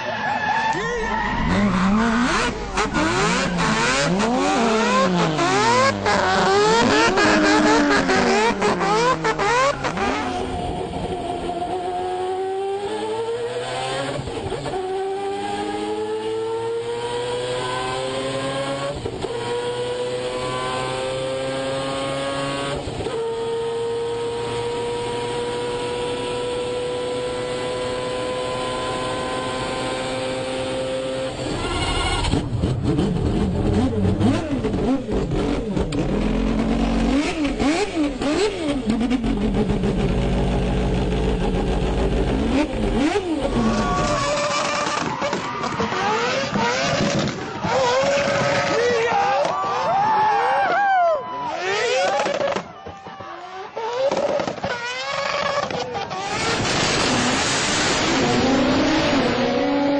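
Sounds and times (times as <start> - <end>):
engine revs blipped: 0.0 - 49.0, 53.4 - 59.9
racing car engine at full throttle: 0.0 - 50.7, 51.4 - 59.9.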